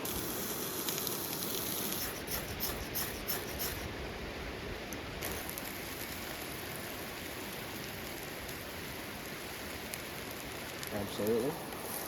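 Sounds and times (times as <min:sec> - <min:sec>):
steady outdoor noise: 0:00.0 - 0:12.0.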